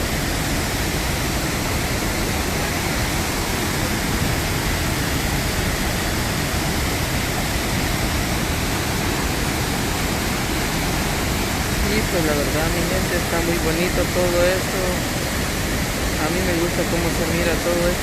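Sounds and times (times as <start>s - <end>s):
waterfall roar: 0.0s - 18.0s.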